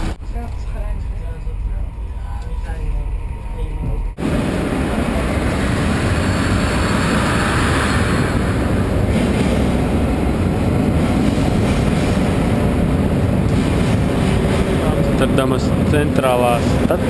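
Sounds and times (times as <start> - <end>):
station noise: 0.0 - 17.0
train carriage rumble: 0.0 - 17.0.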